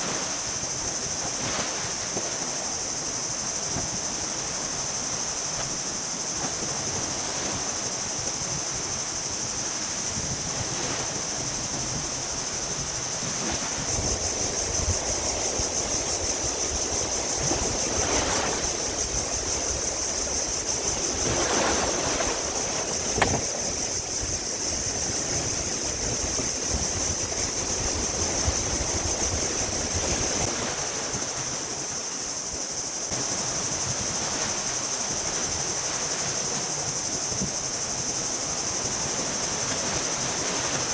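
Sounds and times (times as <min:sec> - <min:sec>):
insects buzzing: 0:00.0 - 0:40.9
sea waves washing on beach: 0:00.0 - 0:40.9.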